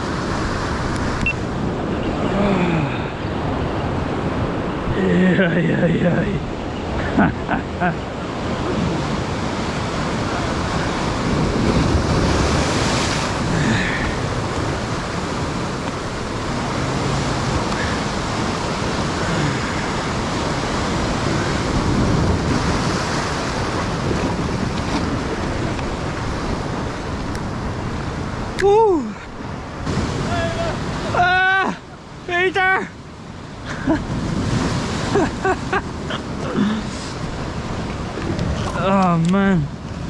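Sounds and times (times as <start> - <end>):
wind on the microphone: 0.0 - 31.8, 33.2 - 40.0
sea surf on rocky shore: 0.0 - 40.0.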